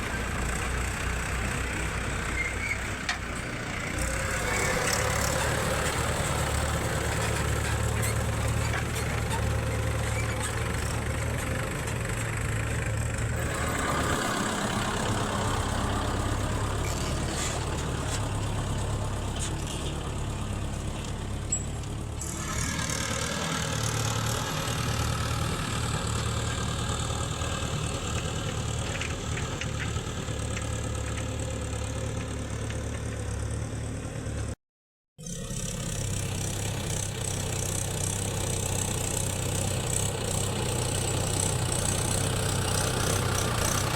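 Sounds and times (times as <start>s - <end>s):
diesel engines running: 0.0s - 34.6s, 35.3s - 43.9s.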